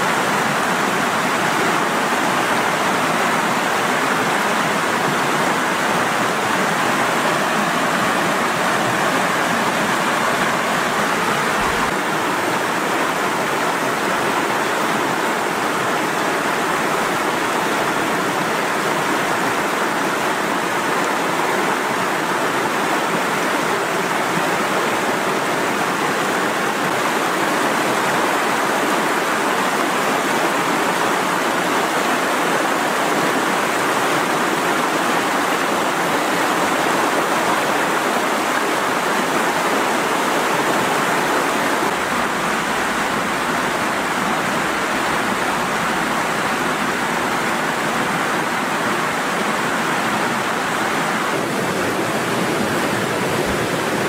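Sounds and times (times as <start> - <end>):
river rushing through rapids: 0.0 - 54.0.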